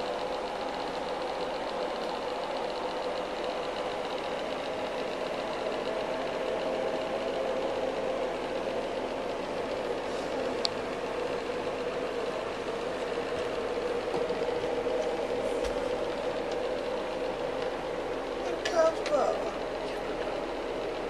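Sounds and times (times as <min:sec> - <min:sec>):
mechanical whirring hum: 0:00.0 - 0:21.0.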